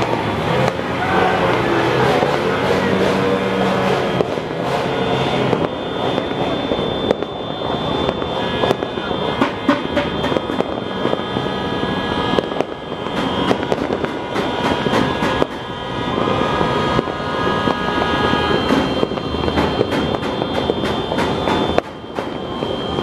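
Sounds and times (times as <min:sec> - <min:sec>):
fireworks crackling and banging: 0:00.0 - 0:23.0
steady high-pitched tones: 0:00.0 - 0:23.0.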